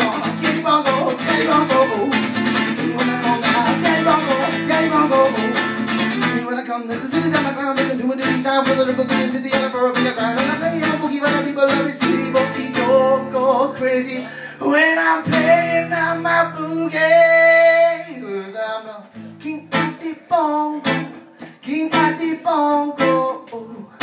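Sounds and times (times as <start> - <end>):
acoustic guitar strummed fast: 0.0 - 17.6, 19.4 - 23.5.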